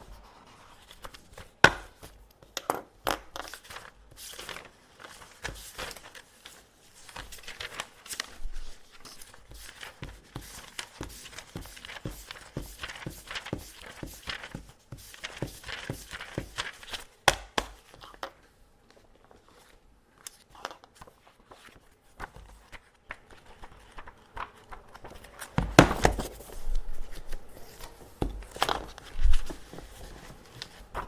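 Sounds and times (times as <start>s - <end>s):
paper rustling: 0.0s - 2.3s, 3.4s - 31.0s.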